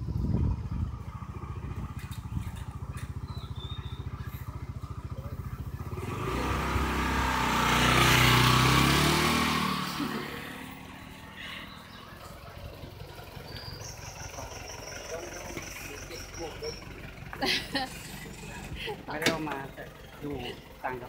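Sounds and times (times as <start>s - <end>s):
motorcycle engine idling: 0.0s - 21.0s
motorcycle passing by: 0.0s - 21.0s.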